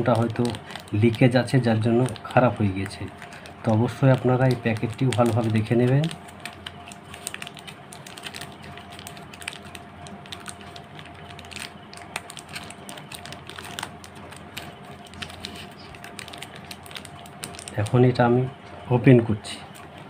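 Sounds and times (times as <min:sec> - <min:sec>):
foil wrappers crinkling: 0:00.0 - 0:18.2.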